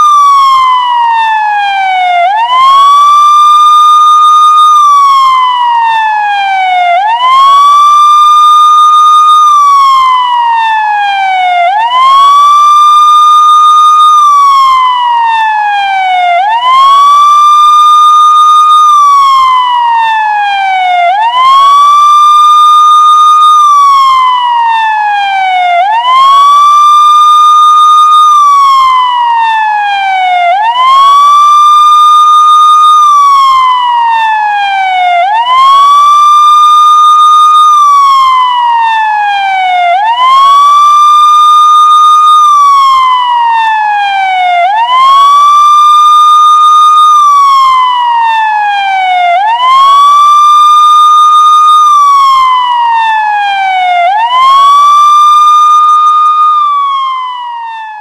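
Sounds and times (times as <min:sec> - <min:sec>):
police siren wailing: 0:00.0 - 0:58.0.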